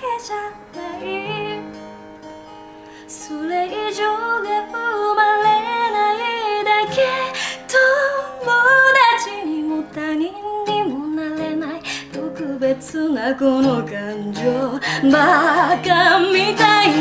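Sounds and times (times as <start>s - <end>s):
woman singing: 0.0s - 1.8s, 3.0s - 17.0s
strummed acoustic guitar: 0.0s - 17.0s.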